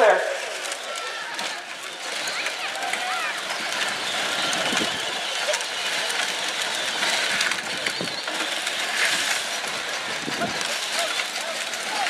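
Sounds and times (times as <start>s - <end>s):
hubbub of onlookers: 0.0s - 12.0s
toy cars whirring: 0.0s - 12.0s.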